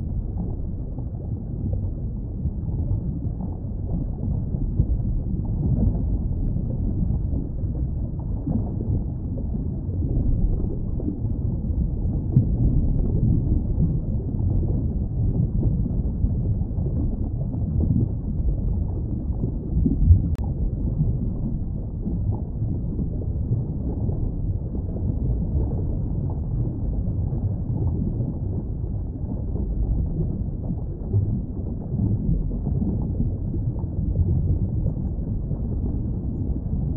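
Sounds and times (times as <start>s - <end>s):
muffled underwater water rumble: 0.0s - 36.9s.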